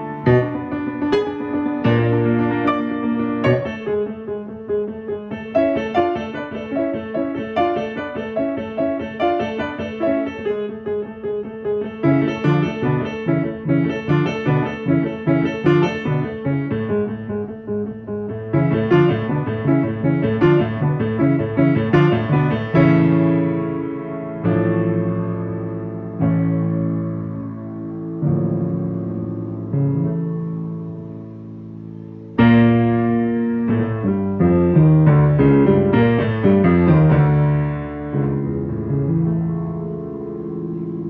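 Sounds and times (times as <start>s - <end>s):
piano playing repeated notes: 0.0s - 41.0s.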